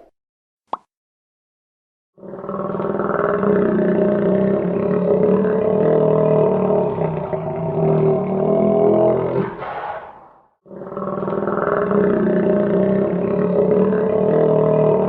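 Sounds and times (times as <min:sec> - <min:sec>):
alligator growling: 0:02.2 - 0:15.0.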